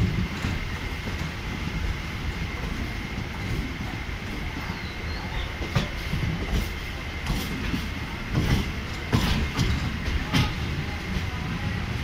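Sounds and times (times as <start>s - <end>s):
wheels knocking on rails: 0.0s - 11.4s
train rumbling on track: 0.0s - 12.0s.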